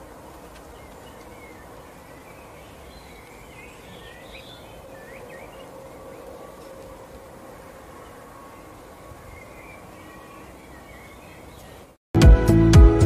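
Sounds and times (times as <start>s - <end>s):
goldfinches chirping: 0.0s - 6.9s, 7.5s - 12.0s
outdoor background hiss: 0.0s - 12.0s.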